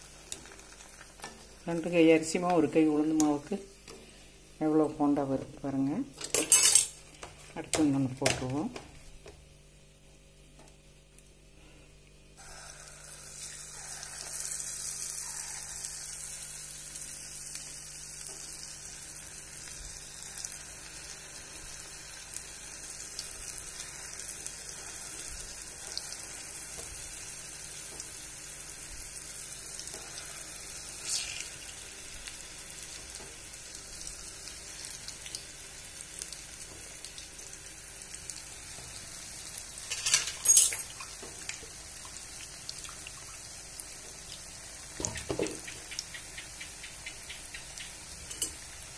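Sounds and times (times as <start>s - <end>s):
batter sizzling in hot oil: 0.0s - 48.9s.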